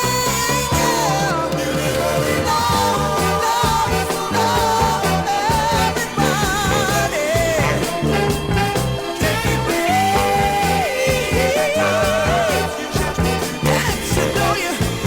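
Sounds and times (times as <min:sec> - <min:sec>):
band with bass and drums: 0:00.0 - 0:15.0.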